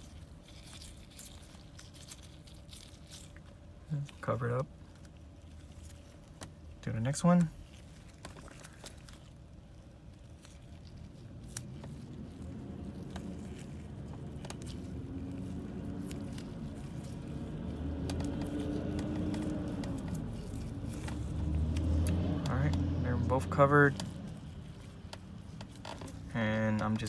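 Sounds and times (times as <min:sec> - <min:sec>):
electrical tape crinkling and scraping: 0:00.0 - 0:27.0
low engine hum: 0:00.0 - 0:27.0.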